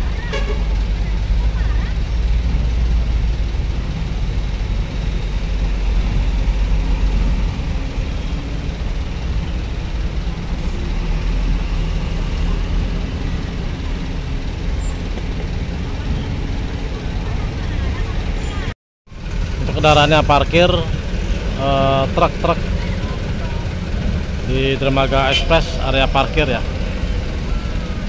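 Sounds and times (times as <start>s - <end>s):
diesel trucks driving past: 0.0s - 28.0s.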